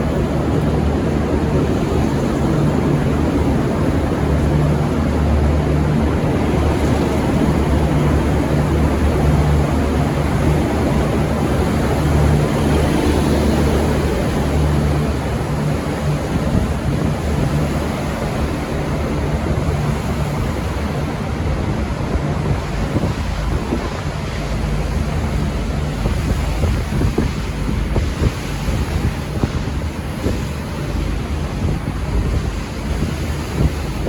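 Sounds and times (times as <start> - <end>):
diesel railcar engine drone: 0.0 - 34.0
wheels rumbling on rail: 0.0 - 34.0
wind buffeting microphone: 0.0 - 34.0.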